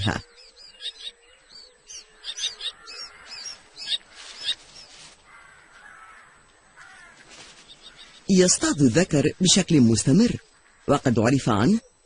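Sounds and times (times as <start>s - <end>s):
faint background noise: 0.0s - 12.0s
kestrels calling: 0.0s - 12.0s.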